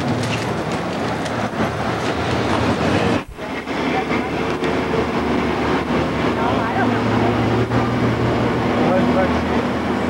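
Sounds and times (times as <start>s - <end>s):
road noise inside moving car: 0.0s - 10.0s.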